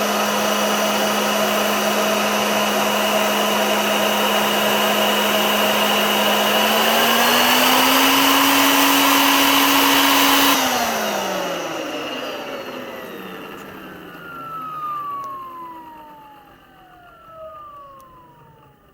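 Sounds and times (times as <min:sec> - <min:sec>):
vacuum cleaner motor: 0:00.0 - 0:18.9.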